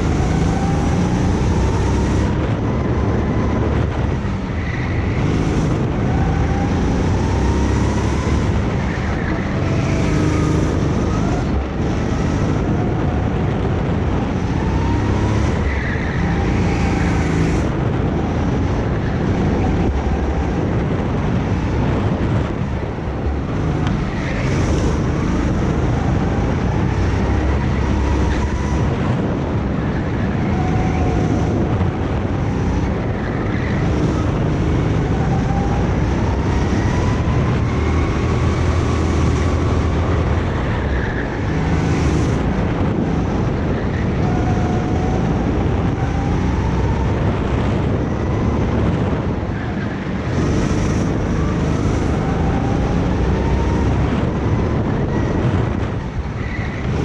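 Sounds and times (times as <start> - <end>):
go-kart engine running hard: 0.0 - 57.0
wind buffeting microphone: 0.0 - 57.0.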